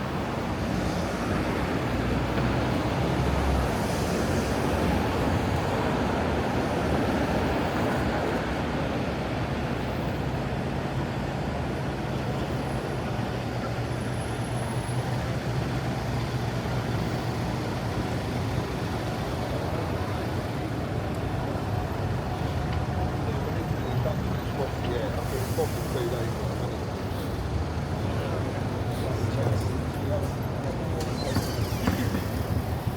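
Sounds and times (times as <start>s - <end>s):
large vehicle engine rumble: 0.0s - 32.9s
road noise hiss: 0.0s - 32.9s.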